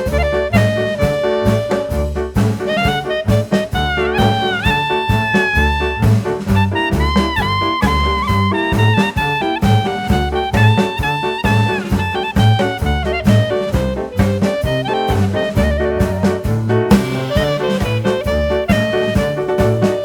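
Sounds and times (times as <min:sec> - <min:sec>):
jazz with brass and saxophone: 0:00.0 - 0:20.0
walking bass: 0:00.0 - 0:20.0.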